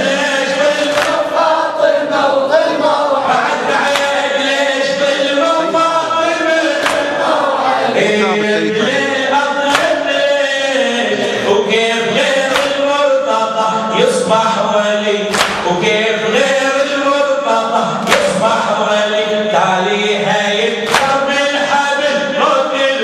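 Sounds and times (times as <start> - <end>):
rhythmic chest-beating strikes: 0.0 - 2.2, 2.9 - 10.6, 11.5 - 22.9
men chanting in unison: 0.0 - 23.0.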